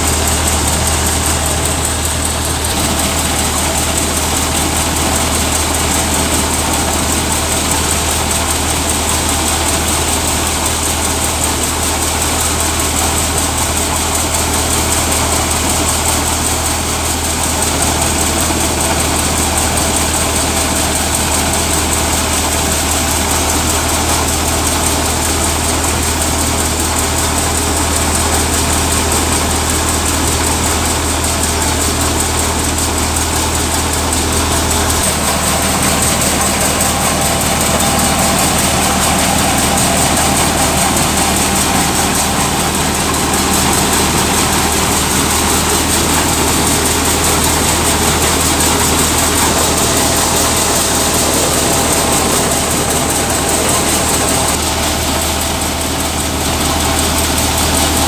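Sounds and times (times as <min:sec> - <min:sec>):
thresher running: 0:00.0 - 0:58.0.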